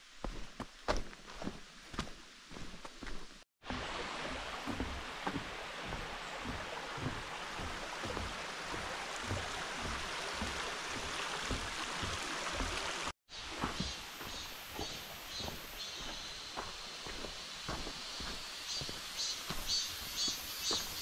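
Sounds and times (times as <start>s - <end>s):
stream water rushing: 1.0s - 21.0s.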